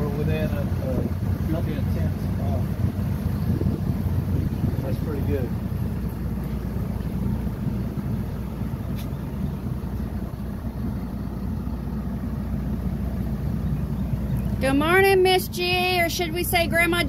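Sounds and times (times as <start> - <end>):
boat engine droning: 0.0 - 17.0
water washing against hull: 0.0 - 17.0.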